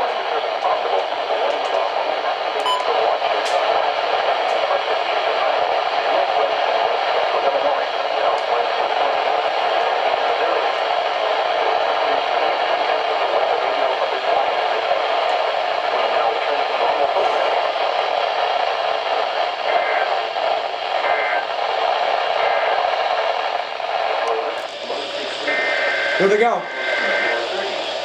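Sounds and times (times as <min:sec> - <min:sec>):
faint radio broadcast: 0:00.0 - 0:28.0
radio static hiss: 0:00.0 - 0:28.0.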